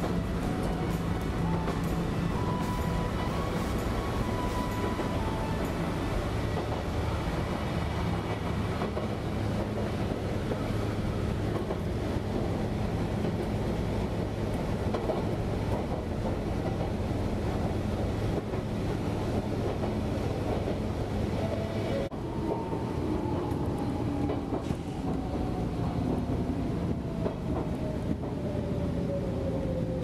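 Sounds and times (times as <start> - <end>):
train car rumble on track: 0.0 - 30.0.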